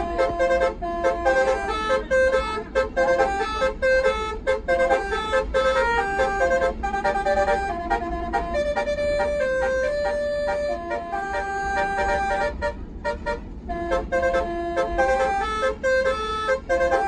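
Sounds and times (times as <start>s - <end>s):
bus engine rumble: 0.0s - 17.0s
multi-tone bus air horn melody: 0.0s - 17.0s.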